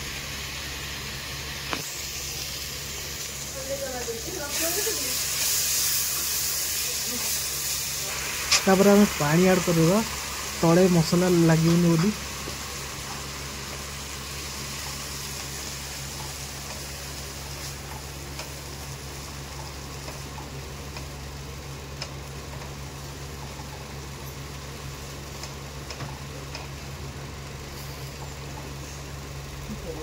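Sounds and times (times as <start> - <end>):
masala sizzling in oil: 0.0 - 30.0
steady low hum: 0.0 - 30.0.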